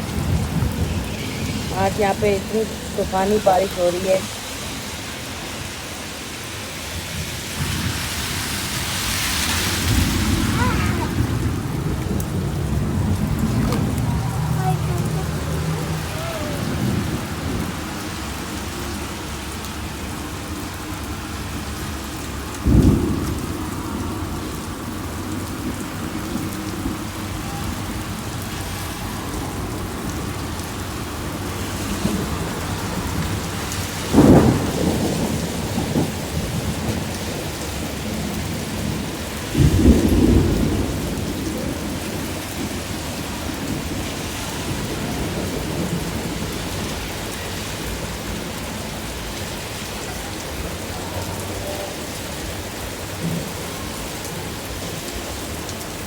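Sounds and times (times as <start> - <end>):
thunder rumbling: 0.0 - 5.4, 7.1 - 49.3
heavy rain falling: 0.0 - 56.0.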